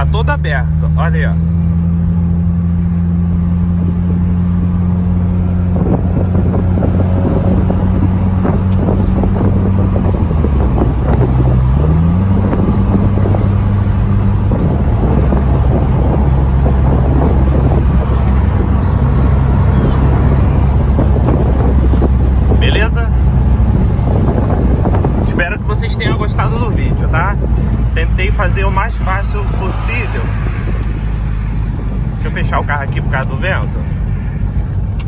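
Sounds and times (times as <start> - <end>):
car engine and exhaust drone: 0.0 - 35.0
wind buffeting microphone: 0.0 - 35.0.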